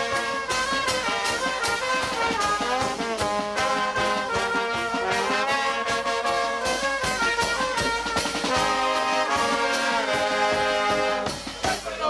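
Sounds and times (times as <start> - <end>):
bass drum and drums beat: 0.0 - 12.0
trombones playing a tune: 0.0 - 12.0.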